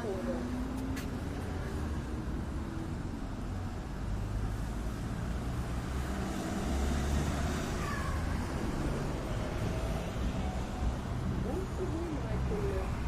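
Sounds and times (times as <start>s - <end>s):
traffic rumble: 0.0s - 13.0s
vehicle passing: 0.0s - 13.0s.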